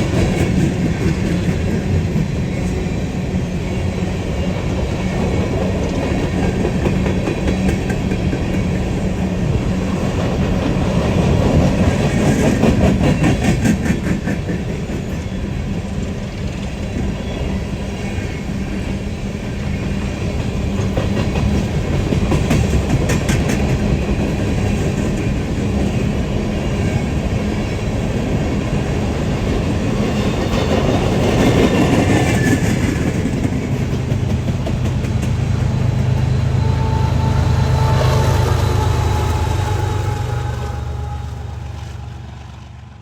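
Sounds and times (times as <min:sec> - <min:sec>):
diesel locomotive engine drone: 0:00.0 - 0:43.0
train wheels clicking on track: 0:00.0 - 0:43.0.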